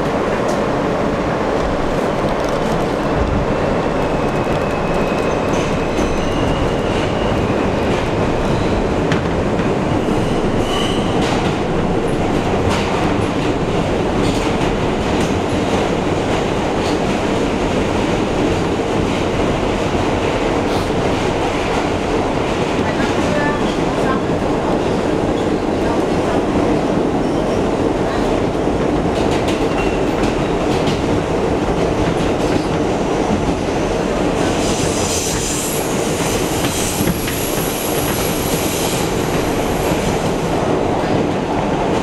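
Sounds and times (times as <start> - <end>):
subway train rumble: 0.0 - 42.0.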